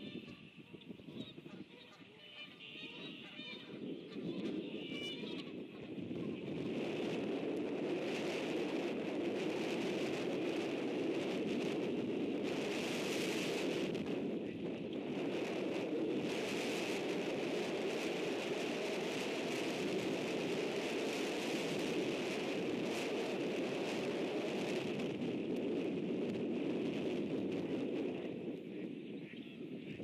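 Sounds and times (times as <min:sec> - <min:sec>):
heavy wind blowing: 0:00.0 - 0:30.0.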